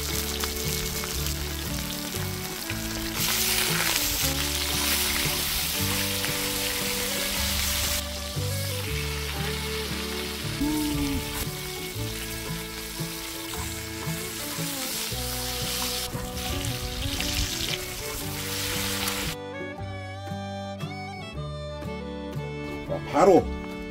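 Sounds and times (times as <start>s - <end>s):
steaks sizzling in hot fat: 0.0s - 19.4s
background music: 0.0s - 23.9s.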